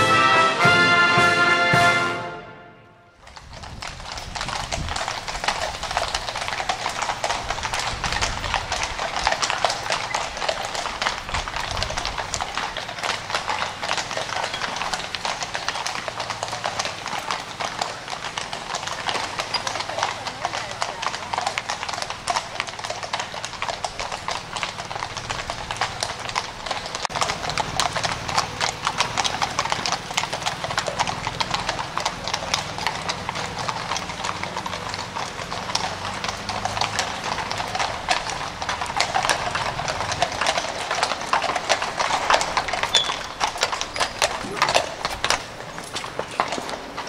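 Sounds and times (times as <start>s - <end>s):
horses' hooves clip-clopping: 3.2s - 47.0s.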